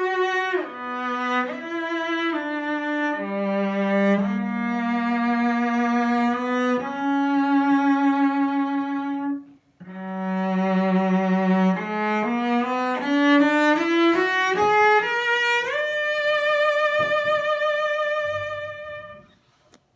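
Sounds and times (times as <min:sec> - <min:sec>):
bowed cello: 0:00.0 - 0:19.5.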